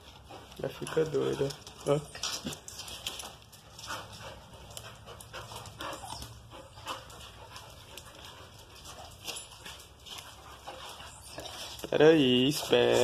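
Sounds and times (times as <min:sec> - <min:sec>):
dogs panting: 0:00.0 - 0:13.0.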